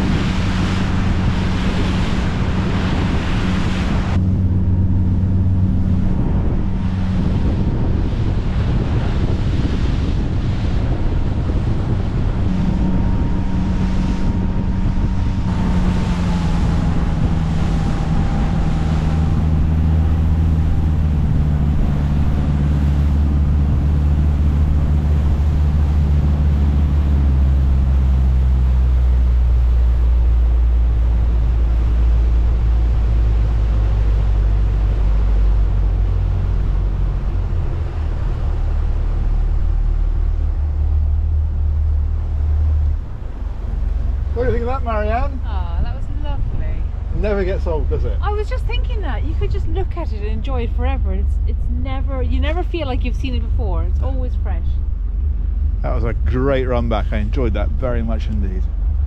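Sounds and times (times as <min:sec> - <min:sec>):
high engine whine: 0:00.0 - 0:59.0
motor boat engine: 0:00.0 - 0:59.0
rush of wind and water: 0:00.0 - 0:59.0.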